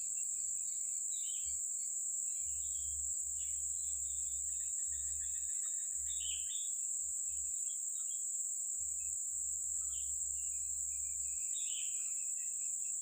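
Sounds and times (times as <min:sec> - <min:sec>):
insects buzzing drone: 0:00.0 - 0:13.0.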